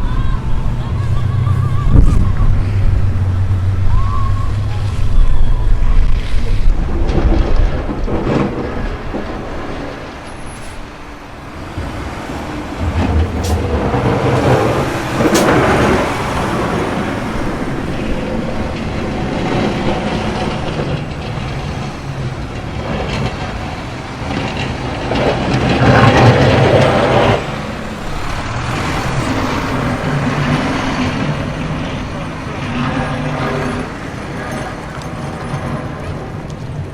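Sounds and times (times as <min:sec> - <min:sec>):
heavy vehicles passing: 0:00.0 - 0:36.9.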